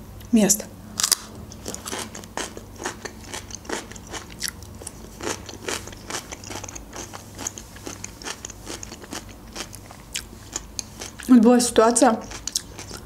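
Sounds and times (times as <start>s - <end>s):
chewing crunchy food: 1.0s - 11.3s, 12.1s - 13.0s.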